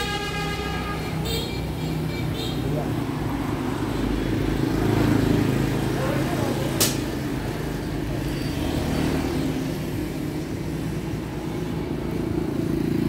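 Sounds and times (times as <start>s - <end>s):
road noise: 0.0s - 13.0s
motorbikes riding past: 0.7s - 13.0s.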